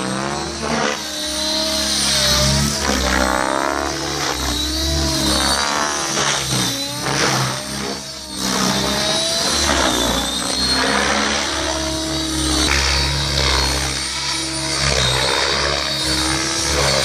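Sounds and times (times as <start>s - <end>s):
high steady whine: 0.0s - 17.0s
rc helicopter rotor and motor: 0.0s - 17.0s.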